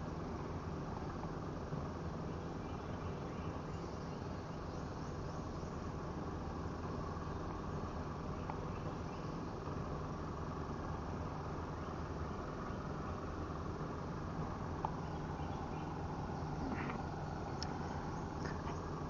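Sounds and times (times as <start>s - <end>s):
outdoor rumble and hiss: 0.0s - 19.0s.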